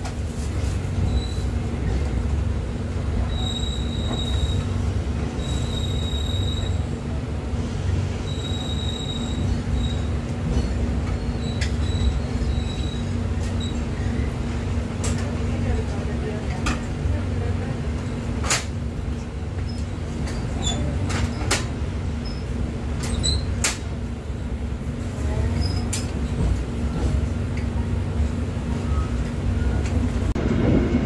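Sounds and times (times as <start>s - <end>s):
train carriage rumble: 0.0s - 31.0s.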